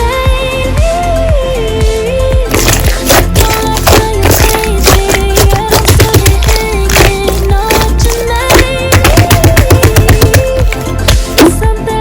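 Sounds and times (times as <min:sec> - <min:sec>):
pop music with clicking beat: 0:00.0 - 0:12.0.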